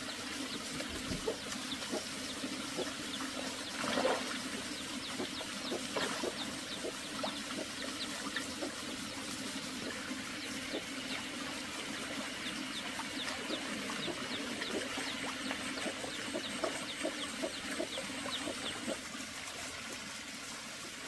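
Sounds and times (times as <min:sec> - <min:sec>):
small birds chirping: 0:00.0 - 0:19.0
trickling water: 0:00.0 - 0:21.0.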